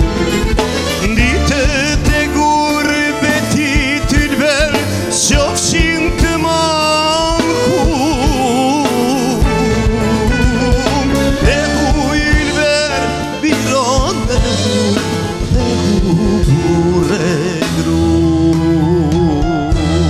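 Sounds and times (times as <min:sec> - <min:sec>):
guitar: 0:00.0 - 0:20.0
keyboard: 0:00.0 - 0:20.0
man singing with vibrato: 0:00.3 - 0:20.0.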